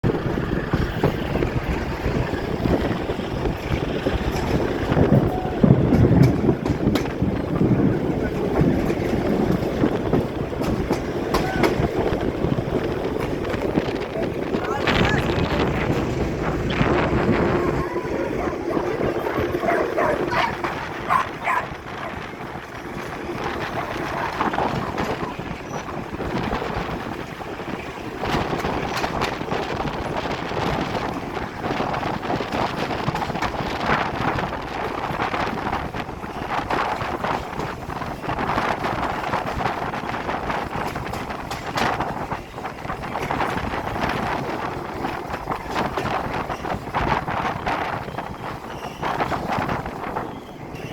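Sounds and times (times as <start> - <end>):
clicks and knocks of train wheels: 0.0 - 50.9
train rumbling past: 0.0 - 50.9
wind on microphone: 0.0 - 50.9.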